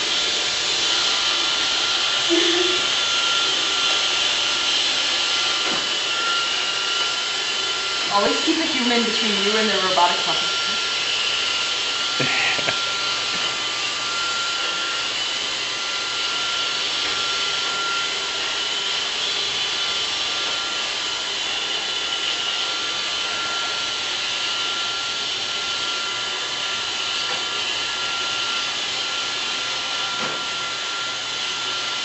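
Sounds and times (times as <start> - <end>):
robot vacuum cleaner whirring: 0.0 - 32.0.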